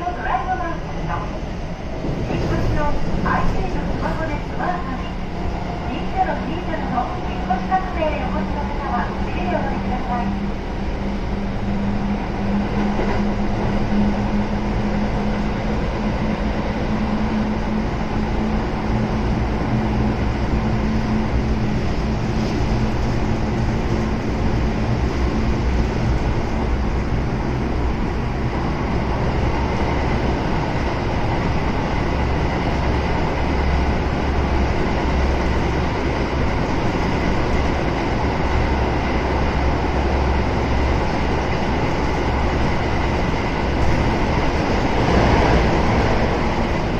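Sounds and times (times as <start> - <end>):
train rolling with motor noise: 0.0 - 46.9.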